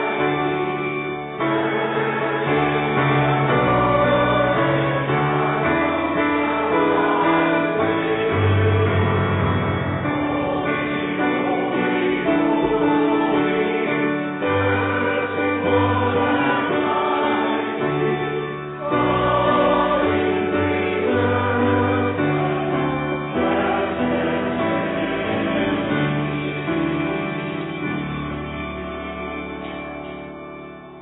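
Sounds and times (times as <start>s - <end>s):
choir singing: 0.0s - 27.9s
sustained chords: 0.0s - 31.0s.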